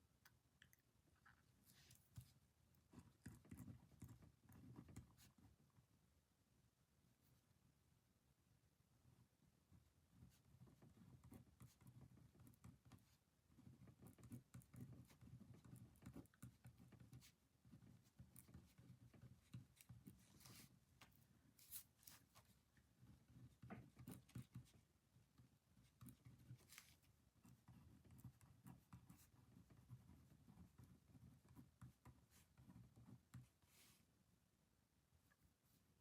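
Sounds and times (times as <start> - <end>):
faint room hum: 0.0 - 36.0.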